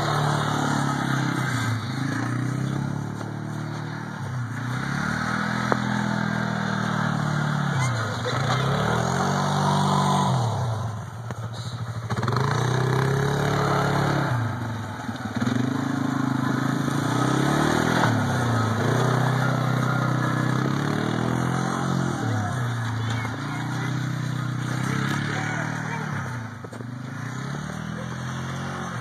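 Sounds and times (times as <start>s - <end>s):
quad bike engine revving: 0.0s - 29.0s.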